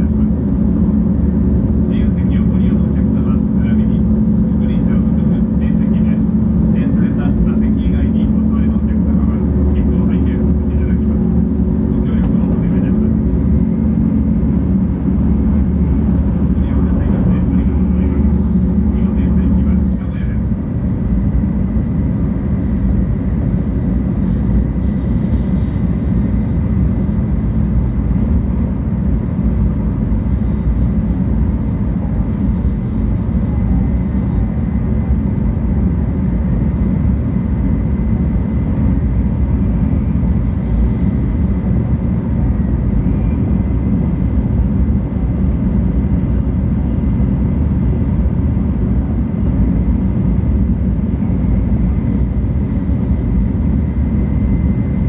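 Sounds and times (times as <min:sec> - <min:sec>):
train cabin low rumble: 0:00.0 - 0:55.0.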